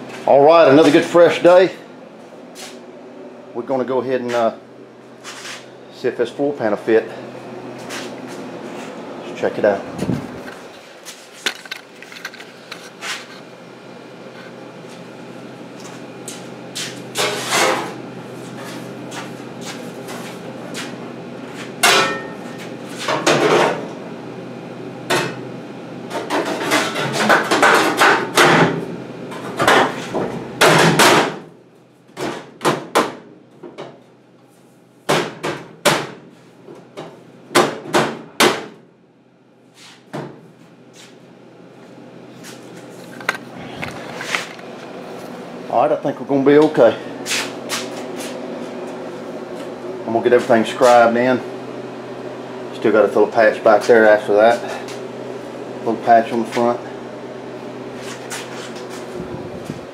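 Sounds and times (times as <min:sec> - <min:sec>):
steady low hum: 0:00.0 - 0:32.5, 0:33.3 - 0:59.9.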